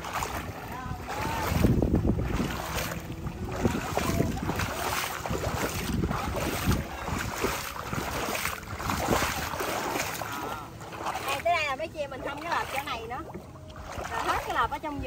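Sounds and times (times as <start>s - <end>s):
person wading through water: 0.0s - 15.0s
wind buffeting microphone: 0.0s - 15.0s.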